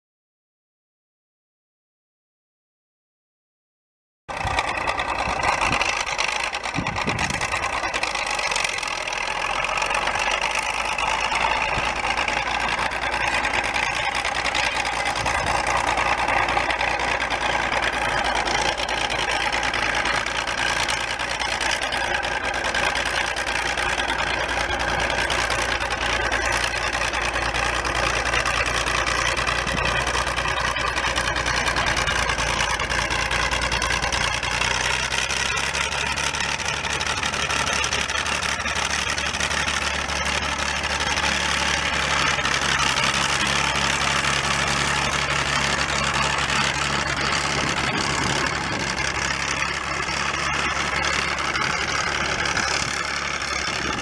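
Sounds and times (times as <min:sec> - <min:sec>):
diesel engine running: 0:04.3 - 0:54.0.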